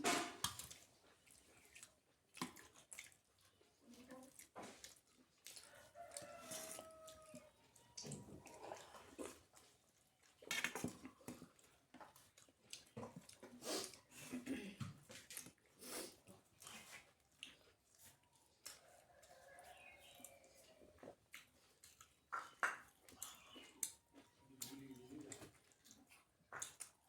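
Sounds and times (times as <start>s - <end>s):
person chewing and smacking: 0.4s - 27.0s.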